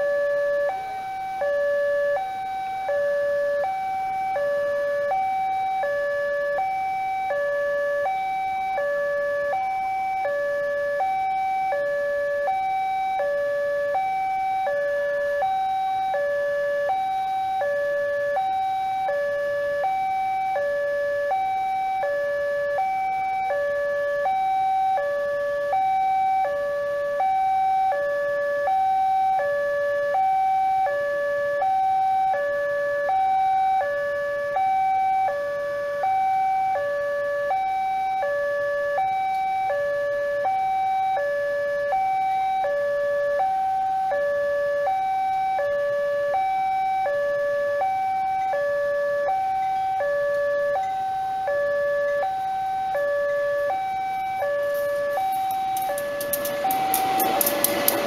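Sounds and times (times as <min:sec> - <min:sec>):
two-tone crossing alarm: 0:00.0 - 0:58.0.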